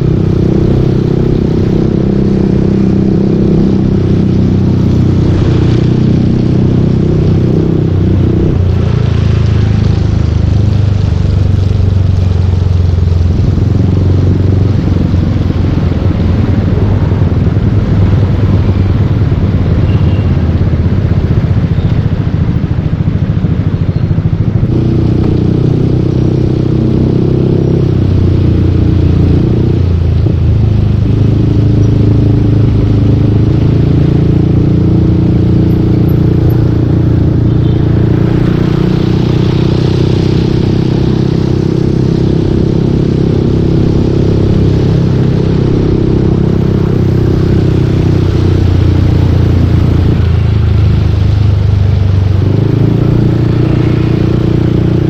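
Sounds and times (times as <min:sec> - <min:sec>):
scooter engine exhaust note: 0:00.0 - 0:55.0
steady noisy rush: 0:00.0 - 0:55.0.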